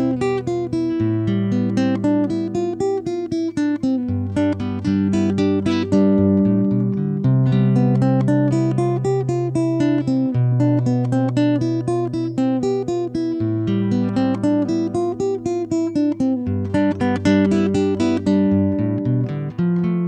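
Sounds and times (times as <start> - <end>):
acoustic guitar plucking: 0.0 - 20.0.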